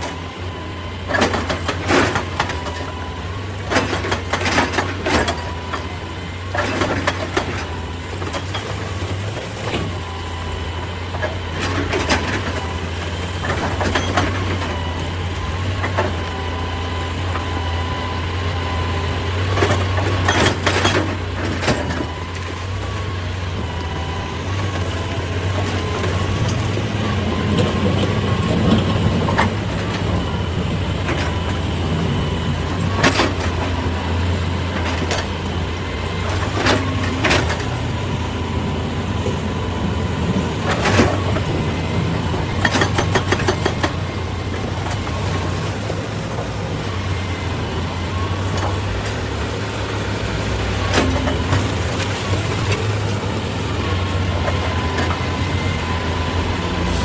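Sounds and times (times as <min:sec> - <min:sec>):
excavator diesel engine running: 0:00.0 - 0:57.0
steady whine: 0:00.0 - 0:57.0.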